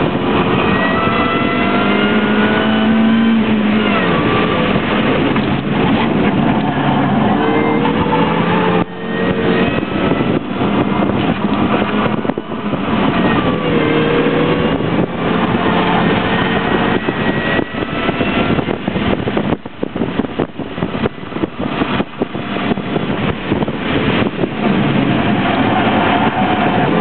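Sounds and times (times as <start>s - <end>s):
car engine accelerating: 0.0s - 27.0s
loud wind noise: 0.0s - 27.0s.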